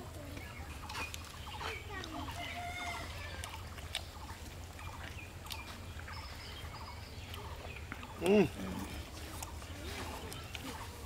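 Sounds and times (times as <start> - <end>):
faint bird calls: 0.0 - 11.0
chewing and mouth smacks: 0.3 - 11.0.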